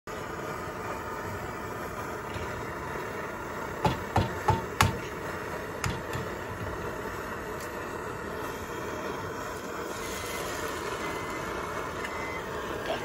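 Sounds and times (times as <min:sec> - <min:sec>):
steady background hiss: 0:00.1 - 0:13.0.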